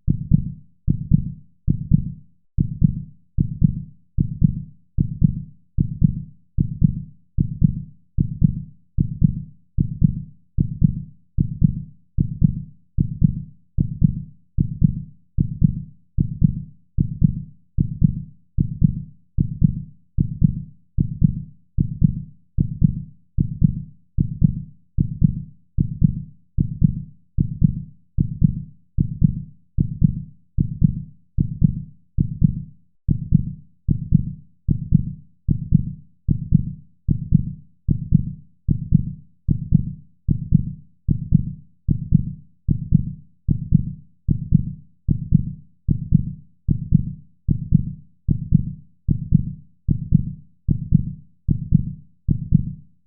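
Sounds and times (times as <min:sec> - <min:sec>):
heartbeat thuds: 0:00.1 - 0:52.7.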